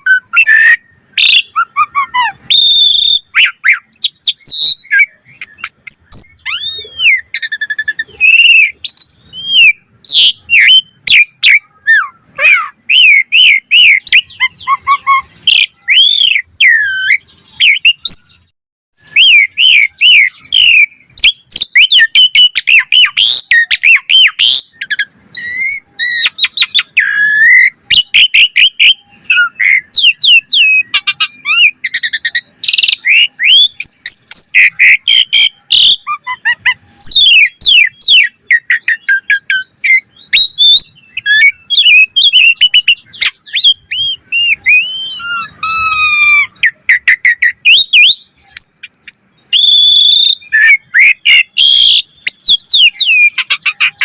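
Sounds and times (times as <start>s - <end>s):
starling singing: 0.0s - 54.0s.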